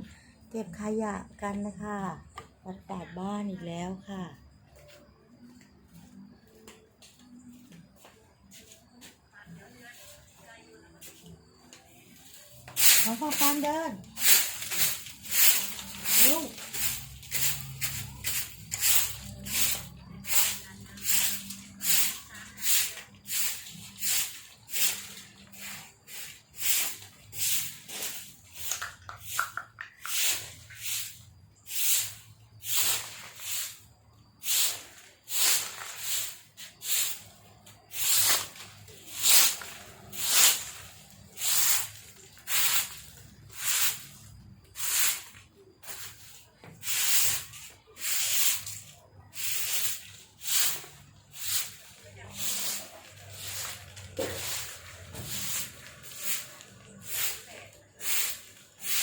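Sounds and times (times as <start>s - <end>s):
broom sweeping leaves: 8.5s - 59.0s.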